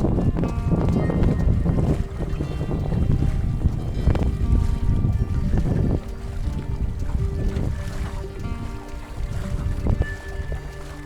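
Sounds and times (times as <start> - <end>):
background music of held notes: 0.0 - 11.0
wind rumble on microphone: 0.0 - 11.0.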